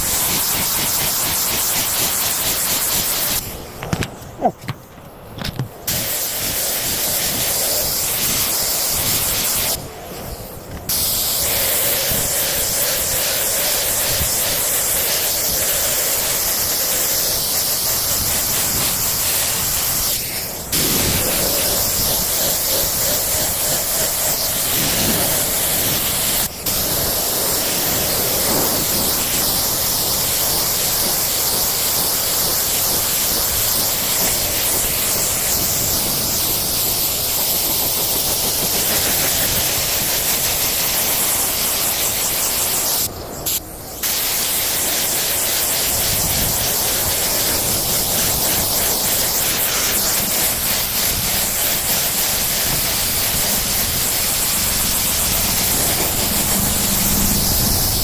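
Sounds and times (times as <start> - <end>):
spray gun hissing: 0.0 - 58.0.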